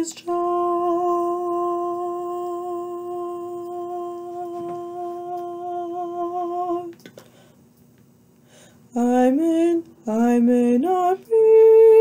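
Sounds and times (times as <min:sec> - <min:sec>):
woman singing a long note: 0:00.0 - 0:07.0, 0:08.9 - 0:12.0.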